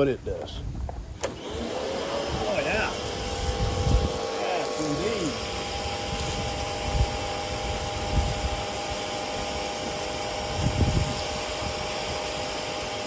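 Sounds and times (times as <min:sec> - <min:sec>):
pressure washer pump humming: 0:01.2 - 0:13.0
water spraying hiss: 0:01.6 - 0:13.0.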